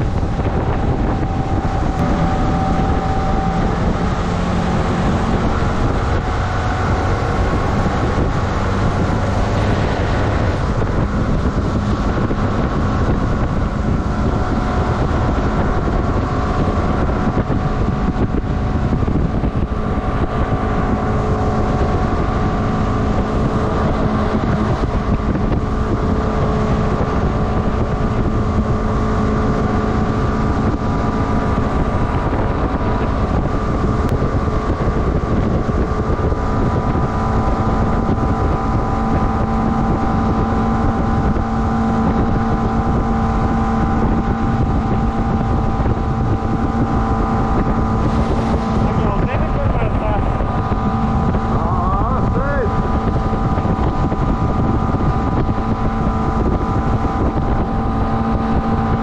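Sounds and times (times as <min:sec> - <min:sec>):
motorboat engine drone: 0:00.0 - 0:59.0
wind buffeting microphone: 0:00.0 - 0:59.0.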